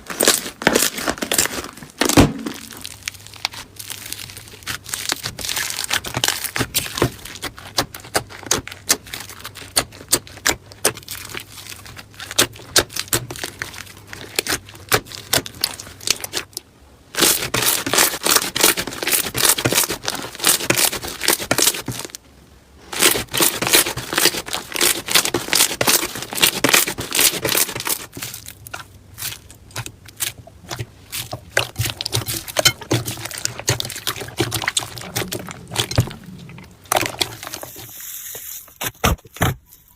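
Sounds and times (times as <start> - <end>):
slime crackling and popping: 0.0 - 22.2, 23.0 - 37.8.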